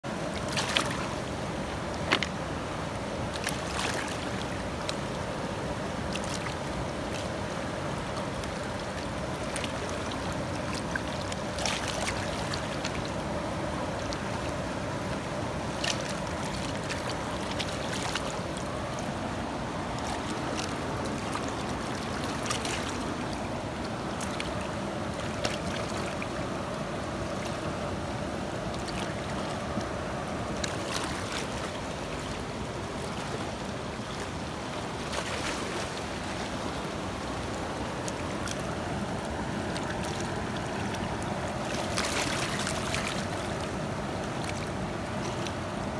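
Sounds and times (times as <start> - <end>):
river water rushing over rocks: 0.0 - 45.9.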